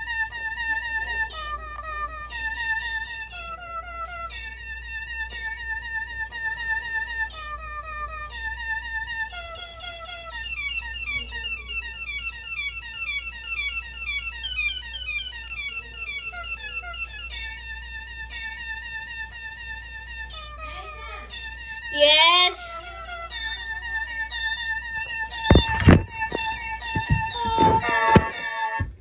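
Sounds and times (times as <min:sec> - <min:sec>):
steady low hum: 0:00.0 - 0:29.0
synthesized melody from laptop speaker: 0:00.0 - 0:29.0.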